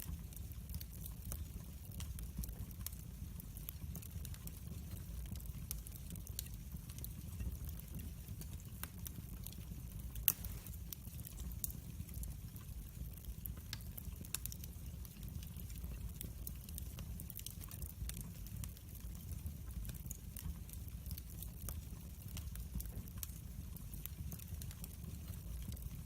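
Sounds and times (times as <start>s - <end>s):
fire burning with low rumble: 0.0s - 26.0s
fire crackling and popping: 0.0s - 26.0s.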